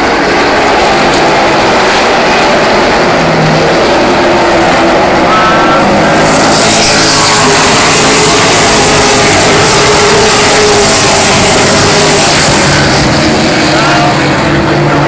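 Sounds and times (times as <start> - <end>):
race truck engines: 0.0 - 15.0.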